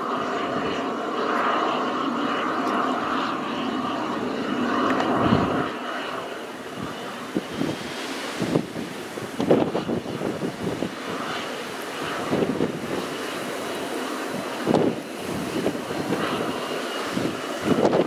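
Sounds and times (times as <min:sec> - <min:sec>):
helicopter rotor noise: 0:00.0 - 0:18.0
high turbine whine: 0:00.0 - 0:18.0
wind gusts on microphone: 0:00.0 - 0:18.0.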